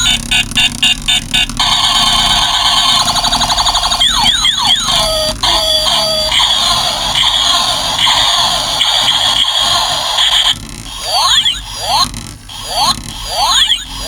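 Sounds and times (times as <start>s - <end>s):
falling electronic zaps: 0.0s - 14.0s
fast electronic trill: 0.0s - 14.0s
toy electronic beeping: 0.0s - 14.0s
warbling siren-like tone: 0.0s - 14.0s.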